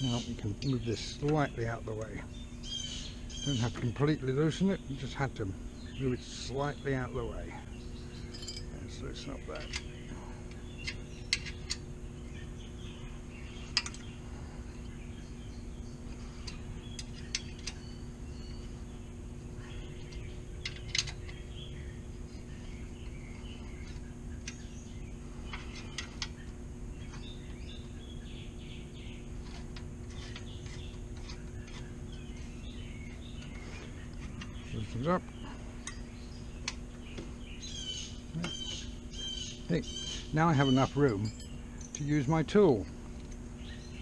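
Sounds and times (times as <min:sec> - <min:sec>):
birds chirping: 0:00.0 - 0:44.0
steady low hum: 0:00.0 - 0:44.0.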